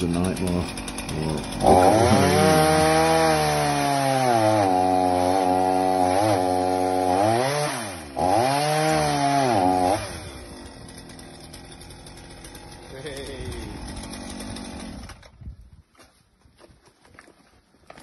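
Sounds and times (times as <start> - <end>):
chainsaw cutting wood: 0.0 - 15.4.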